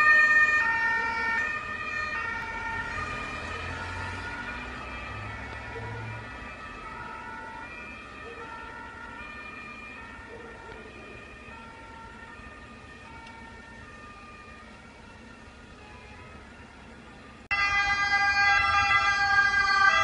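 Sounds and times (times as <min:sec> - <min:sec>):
two-tone sirens: 0:00.0 - 0:20.0.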